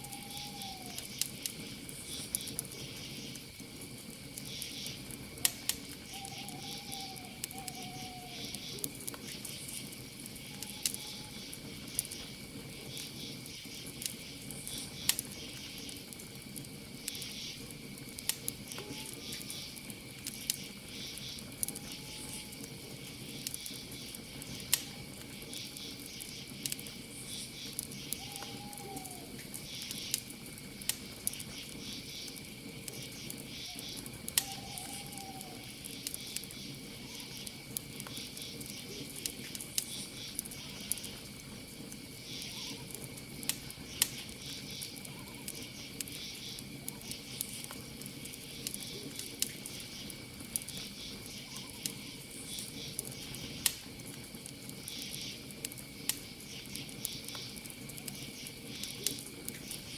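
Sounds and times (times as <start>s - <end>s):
campfire crackling and popping: 0.0s - 59.9s
cricket chirps: 0.0s - 59.9s
high insect trill: 0.0s - 59.9s.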